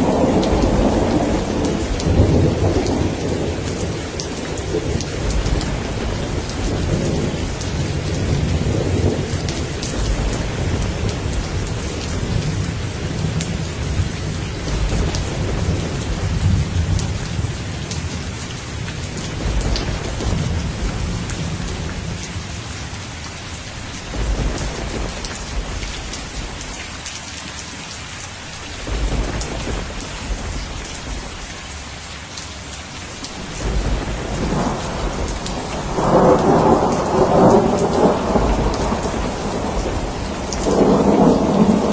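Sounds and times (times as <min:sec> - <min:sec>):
thunder rumbling: 0:00.0 - 0:23.0, 0:23.6 - 0:27.1, 0:28.7 - 0:31.7, 0:33.2 - 0:41.9
heavy rain hissing: 0:00.0 - 0:41.9.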